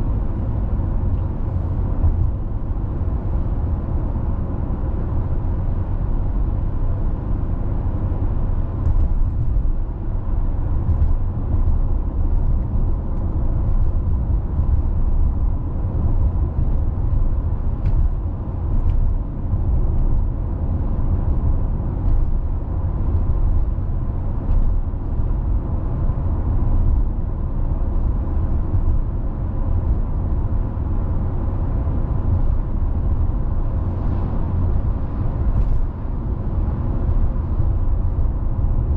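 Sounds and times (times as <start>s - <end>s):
car tyre and engine rumble: 0.0s - 38.9s.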